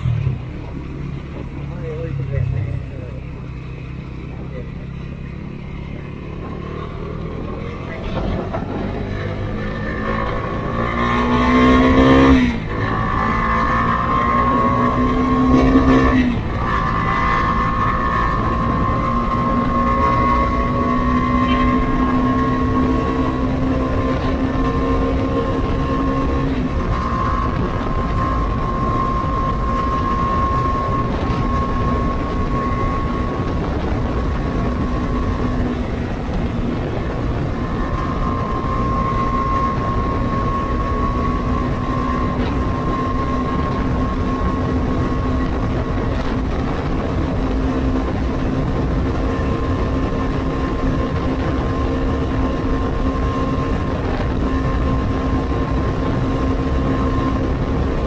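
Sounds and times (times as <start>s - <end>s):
motorcycle engine cruising: 0.0s - 58.0s.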